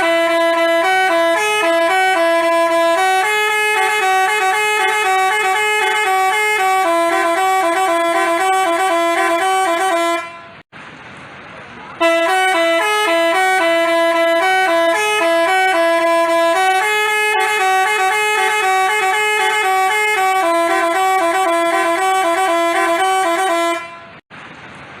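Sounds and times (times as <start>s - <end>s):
bus horn playing melody: 0.0s - 10.7s, 12.0s - 24.2s.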